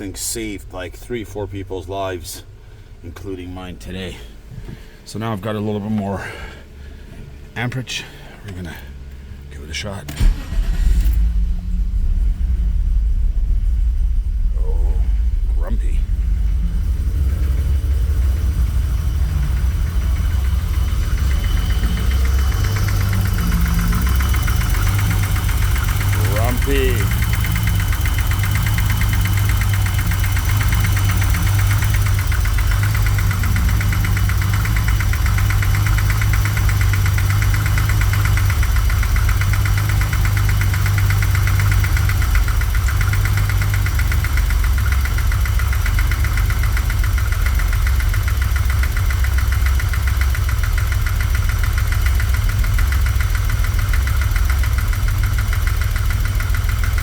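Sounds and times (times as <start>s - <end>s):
car engine idling roughly: 0.0s - 57.0s.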